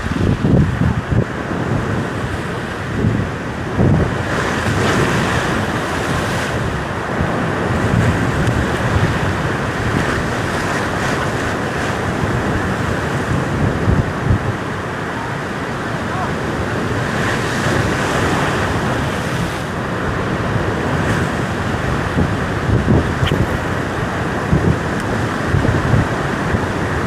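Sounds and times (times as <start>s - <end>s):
ocean surf breaking on rocks: 0.0s - 27.0s
wind buffeting microphone: 0.0s - 27.0s.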